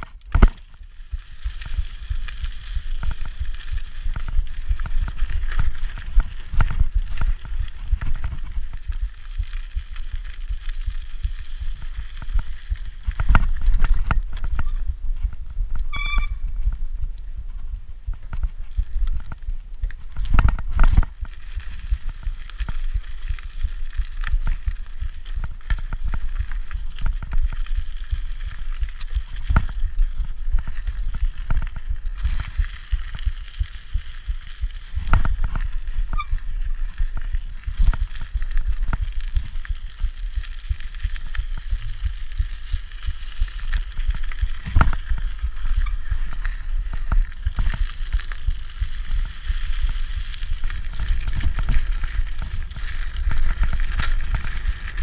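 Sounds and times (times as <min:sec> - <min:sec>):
bike knocks and rattles: 0:00.0 - 0:40.1, 0:40.8 - 0:55.0
bike tyres on loose dirt: 0:00.0 - 0:55.0
wind rumble on microphone: 0:00.0 - 0:55.0.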